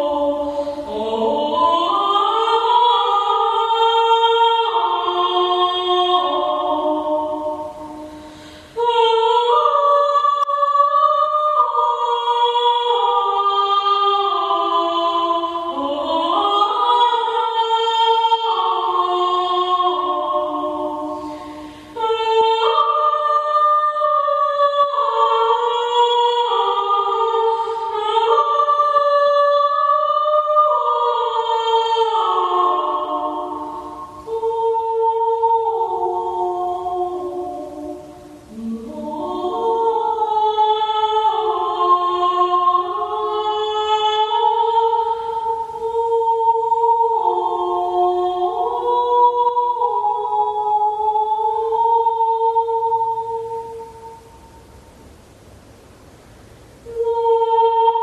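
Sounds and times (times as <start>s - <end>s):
slow choral music: 0.0s - 58.0s.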